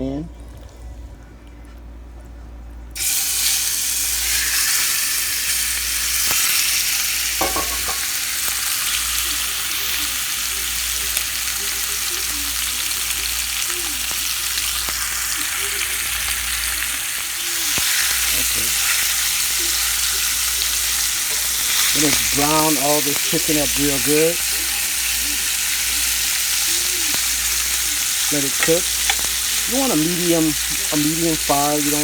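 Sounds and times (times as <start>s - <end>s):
frying sizzle in oil: 3.0s - 32.0s.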